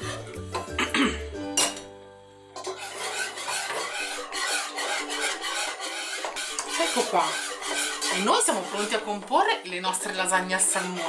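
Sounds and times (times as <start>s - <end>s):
whisk scraping a pot: 0.0s - 0.7s, 2.6s - 11.0s
background music: 0.0s - 11.0s.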